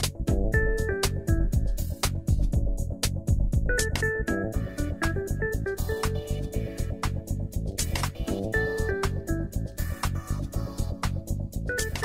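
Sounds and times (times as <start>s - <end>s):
background music with bass beat: 0.0s - 12.0s.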